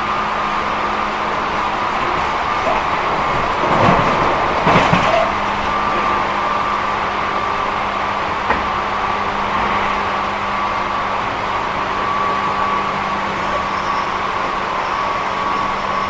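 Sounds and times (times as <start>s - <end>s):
electric train rolling: 0.0s - 16.0s.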